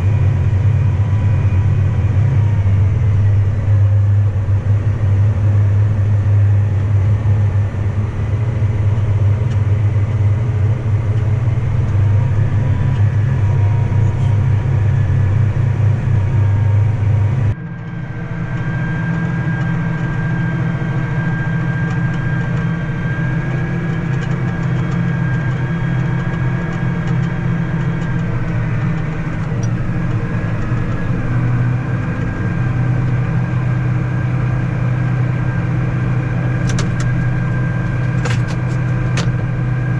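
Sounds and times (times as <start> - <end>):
heavy machinery engine droning: 0.0 - 39.9
high engine whine: 0.0 - 39.9.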